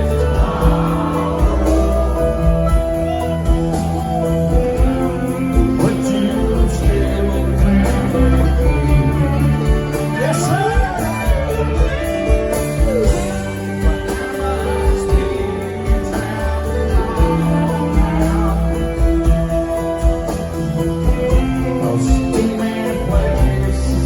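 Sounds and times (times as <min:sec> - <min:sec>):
bass and drums beat: 0:00.0 - 0:24.0
guitars: 0:00.0 - 0:24.0
person singing: 0:00.0 - 0:24.0.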